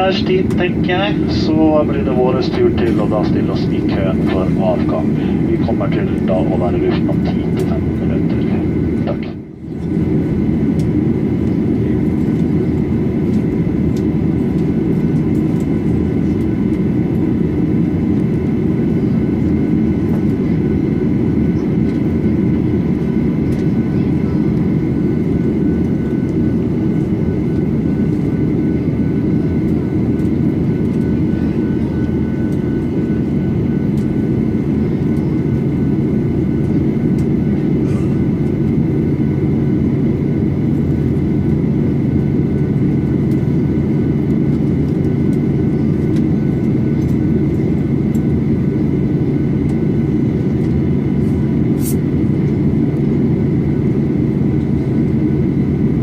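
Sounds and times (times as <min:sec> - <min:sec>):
aircraft cabin engine rumble: 0:00.0 - 0:56.0
faint steady whines: 0:00.0 - 0:56.0.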